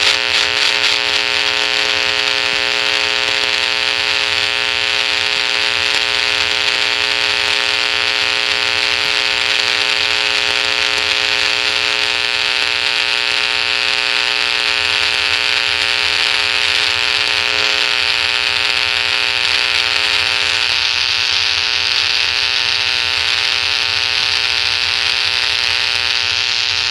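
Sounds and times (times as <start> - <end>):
electrical hum with hiss: 0.0 - 26.9.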